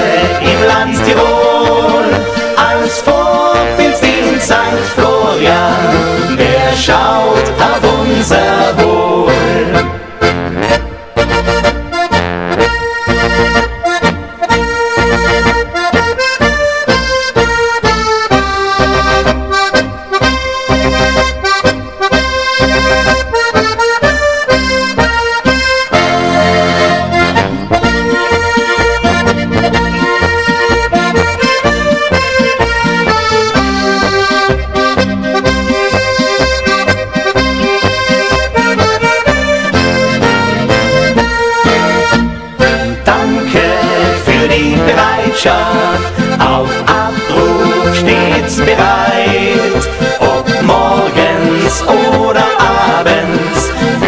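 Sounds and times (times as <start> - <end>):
button accordion: 0.0 - 54.0
folk band playing a march: 0.0 - 54.0.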